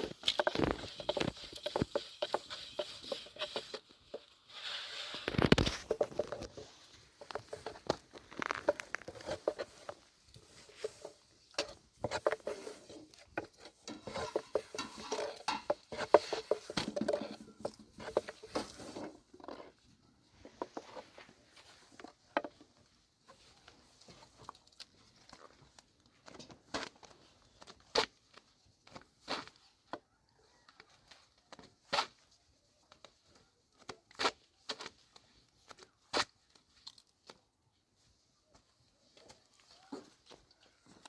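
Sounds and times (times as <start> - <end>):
light taps and scraping: 0.0 - 37.4.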